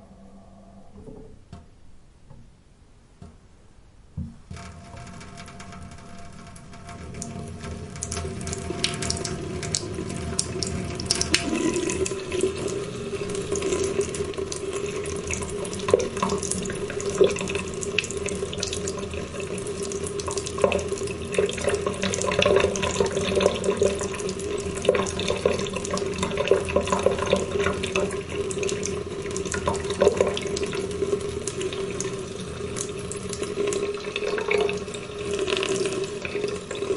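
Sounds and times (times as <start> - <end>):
water running: 4.2 - 36.9.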